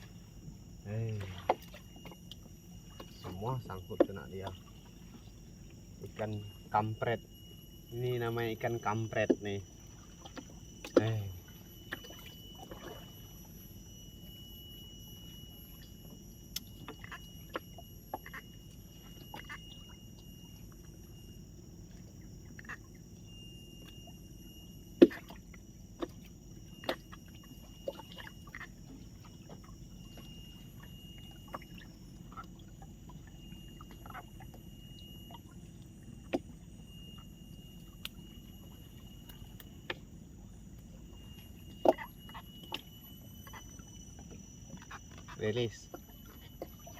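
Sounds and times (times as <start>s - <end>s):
high-pitched background whine: 0.0s - 46.9s.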